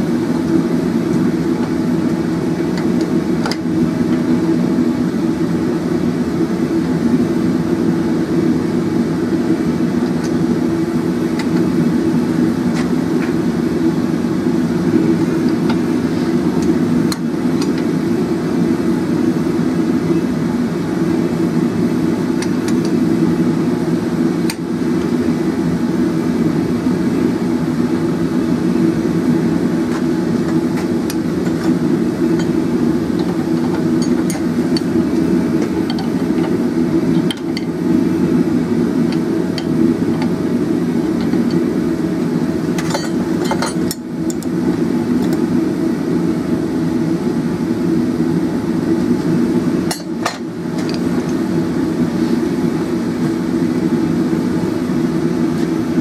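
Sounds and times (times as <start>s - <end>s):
gas forge burner roaring: 0.0s - 56.0s.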